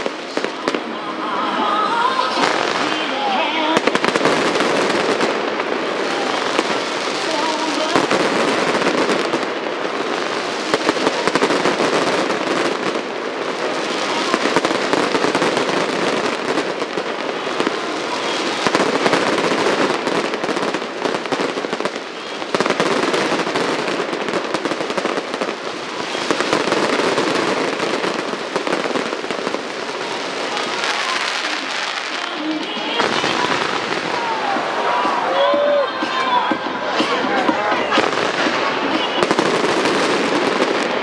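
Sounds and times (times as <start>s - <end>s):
aerial fireworks bursting: 0.0s - 41.0s.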